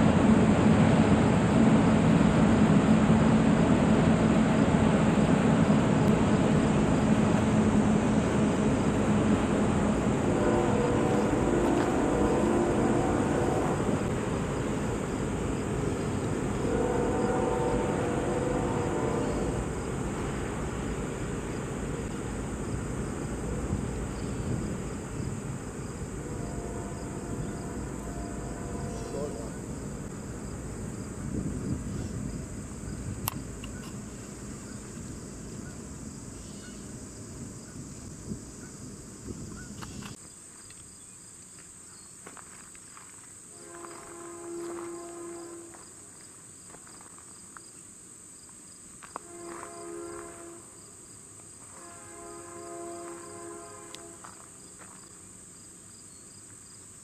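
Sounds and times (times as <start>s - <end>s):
train rumbling: 0.0s - 40.2s, 42.3s - 47.6s, 49.0s - 56.0s
high insect chorus: 3.8s - 57.0s.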